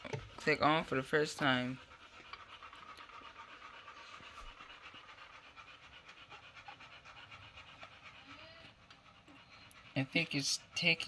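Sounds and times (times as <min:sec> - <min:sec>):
dog panting: 0:00.1 - 0:11.0.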